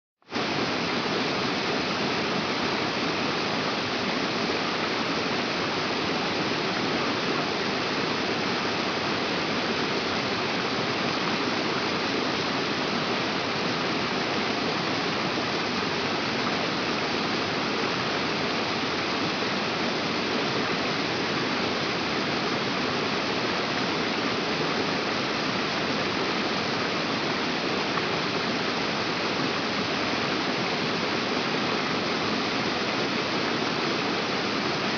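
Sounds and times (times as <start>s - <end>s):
running water rushing: 0.3s - 34.9s.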